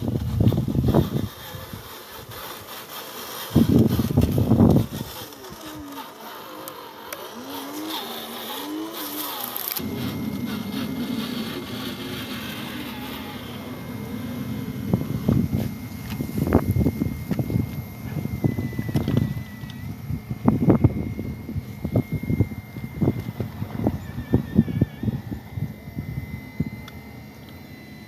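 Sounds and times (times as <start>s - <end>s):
toy truck electric motor whining: 0.0s - 28.0s.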